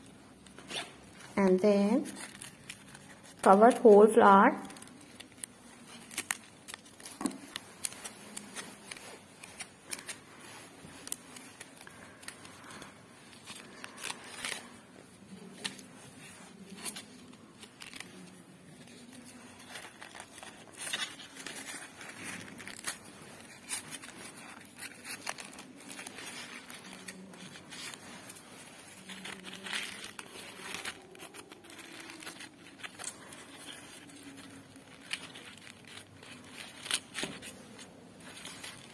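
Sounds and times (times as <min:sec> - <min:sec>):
paper crinkling and rustling: 0:00.0 - 0:38.9.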